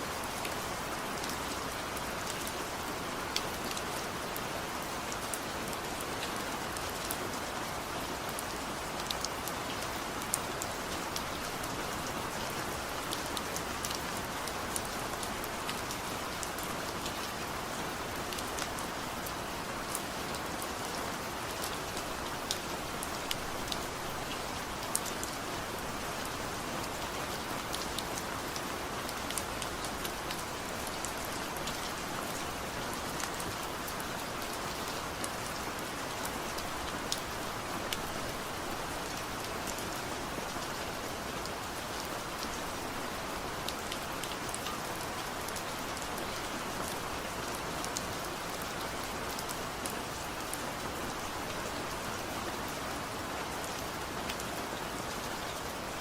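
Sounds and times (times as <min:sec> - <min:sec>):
light rain falling: 0:00.0 - 0:56.0
rain drops ticking: 0:00.1 - 0:56.0.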